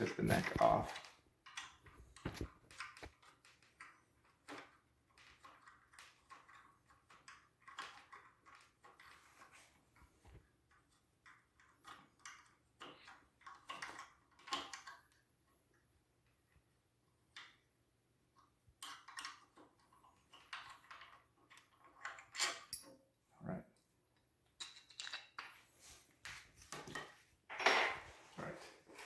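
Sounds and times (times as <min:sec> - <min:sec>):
clicks and knocks of wooden parts: 0:00.1 - 0:23.0, 0:24.1 - 0:29.0.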